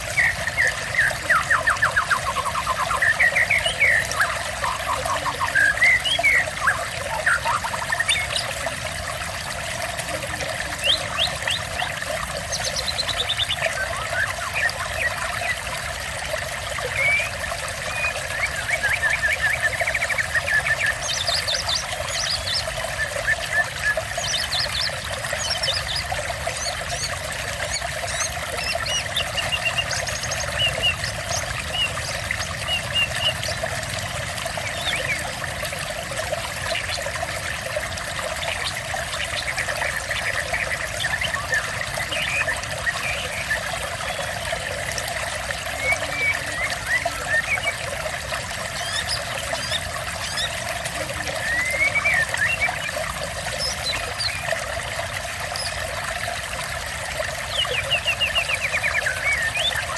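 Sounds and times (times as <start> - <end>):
songbirds singing: 0.0 - 59.9
water trickling: 0.0 - 59.9.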